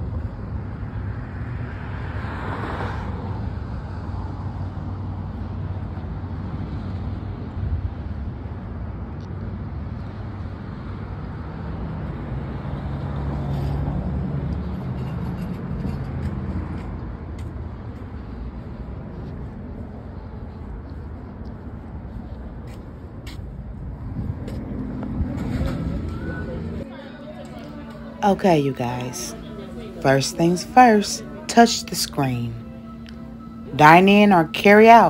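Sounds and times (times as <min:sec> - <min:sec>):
cars passing: 0:00.0 - 0:35.0.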